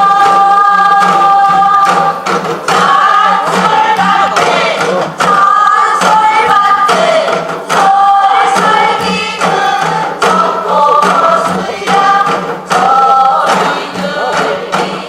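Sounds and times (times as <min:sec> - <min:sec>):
backing music: 0:00.0 - 0:15.0
group of voices singing: 0:00.0 - 0:15.0.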